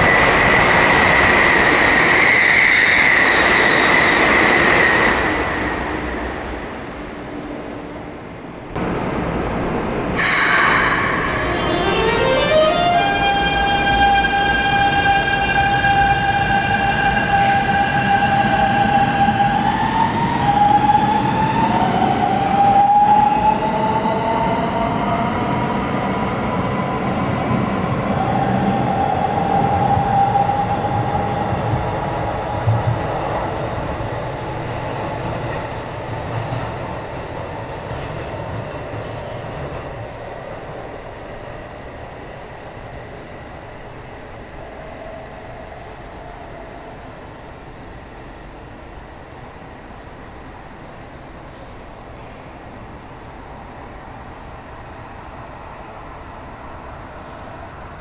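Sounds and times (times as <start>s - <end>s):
train wheel rumble: 0.0s - 24.2s, 24.8s - 58.0s.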